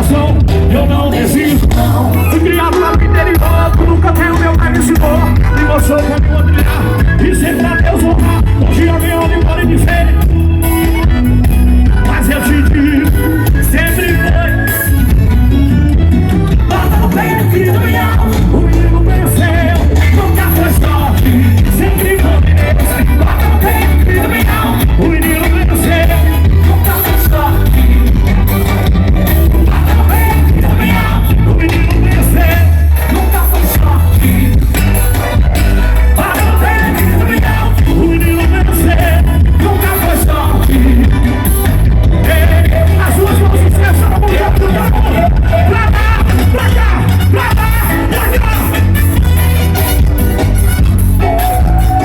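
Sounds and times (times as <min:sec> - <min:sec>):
person singing: 0:00.0 - 0:14.8, 0:16.6 - 0:49.5
live band music with heavy bass: 0:00.0 - 0:52.0.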